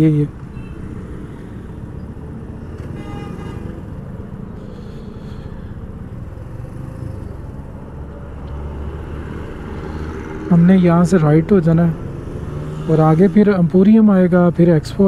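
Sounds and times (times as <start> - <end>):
surrounding traffic: 0.0 - 15.0.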